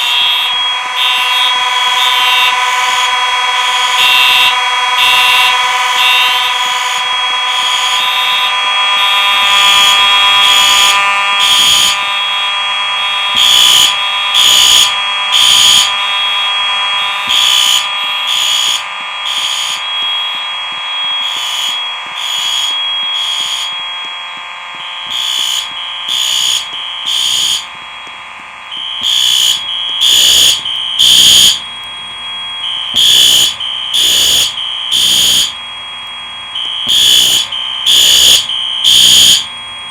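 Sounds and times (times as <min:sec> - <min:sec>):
fire alarm horn pulsing bursts: 0:00.0 - 0:39.9
fire alarm horn steady tone: 0:00.0 - 0:39.9.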